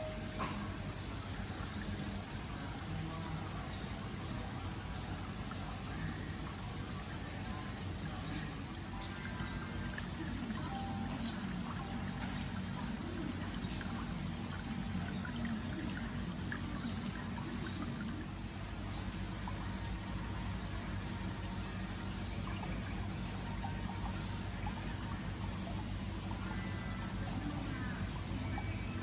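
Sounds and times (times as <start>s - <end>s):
water trickling into a tank: 0.0s - 29.0s.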